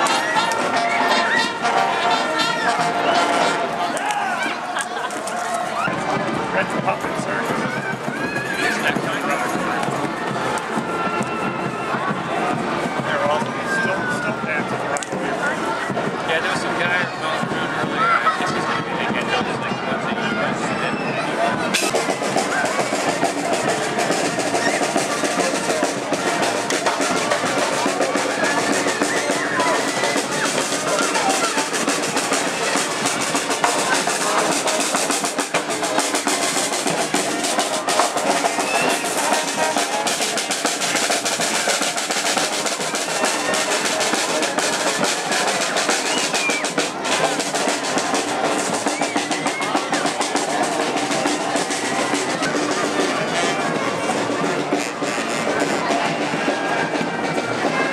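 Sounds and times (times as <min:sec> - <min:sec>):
drums: 0:00.0 - 0:57.9
marching band playing: 0:00.0 - 0:57.9.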